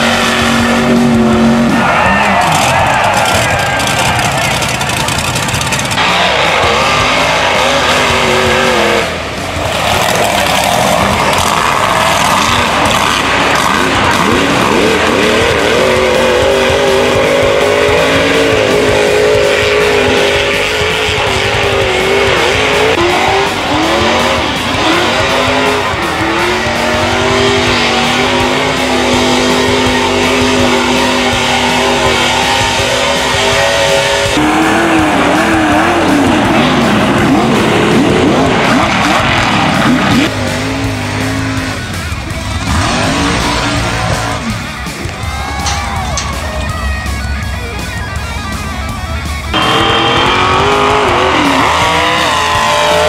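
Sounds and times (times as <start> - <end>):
tires spinning in mud: 0.0 - 46.8, 49.1 - 53.0
rock music with guitar: 0.0 - 53.0
truck engines revving: 0.0 - 53.0.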